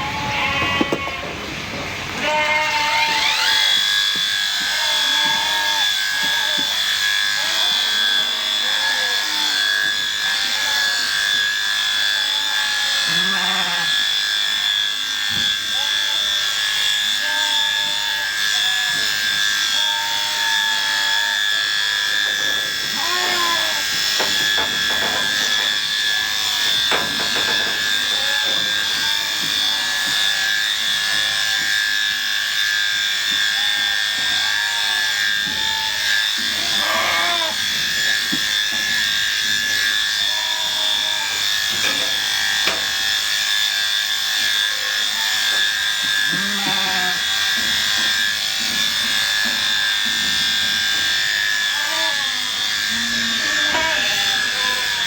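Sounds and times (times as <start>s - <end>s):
electric shears whining: 0.0s - 55.0s.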